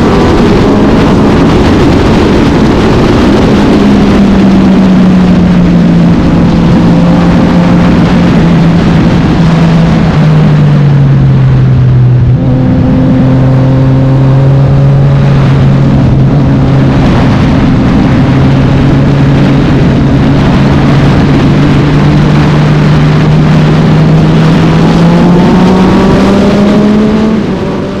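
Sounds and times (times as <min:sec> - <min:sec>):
racing motorcycle engine: 0:00.0 - 0:28.0
steady rushing noise: 0:00.0 - 0:28.0.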